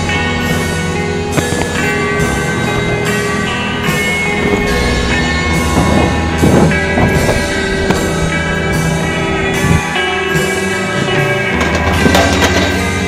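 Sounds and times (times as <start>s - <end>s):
indie rock song: 0.0s - 13.0s.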